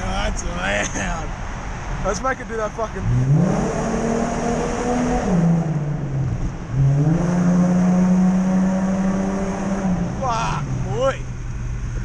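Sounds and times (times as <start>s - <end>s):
car engine and exhaust revving: 1.2s - 12.0s.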